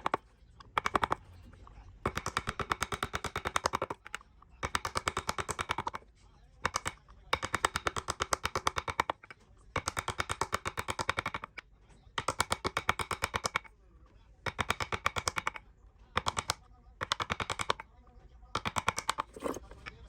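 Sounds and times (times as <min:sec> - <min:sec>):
tool striking wood rapidly: 0:00.0 - 0:01.3, 0:02.0 - 0:06.0, 0:06.7 - 0:11.6, 0:12.2 - 0:13.7, 0:14.5 - 0:15.6, 0:16.2 - 0:17.9, 0:18.6 - 0:20.0.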